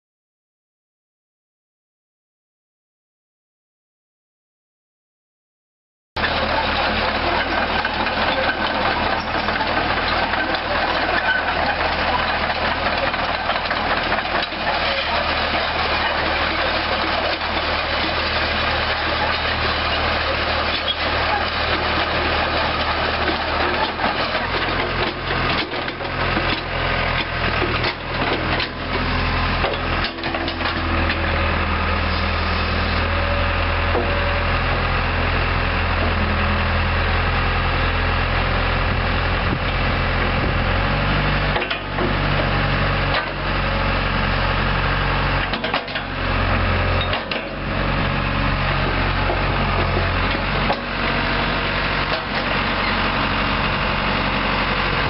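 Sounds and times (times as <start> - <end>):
excavator diesel engine running: 6.2 - 55.0.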